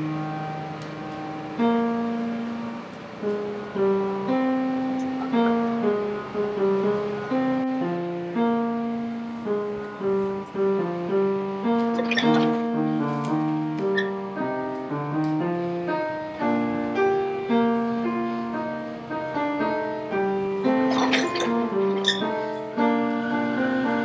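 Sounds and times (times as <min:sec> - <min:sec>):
solo piano music: 0:00.0 - 0:24.0.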